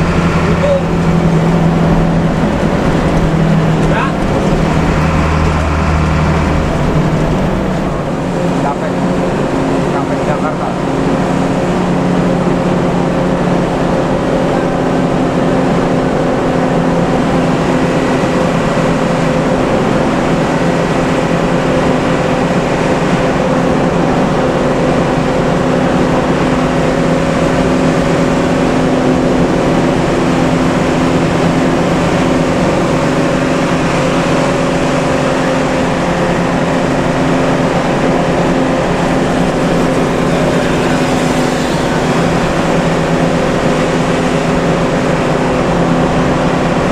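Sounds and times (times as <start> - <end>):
bus engine and road drone: 0.0 - 46.9.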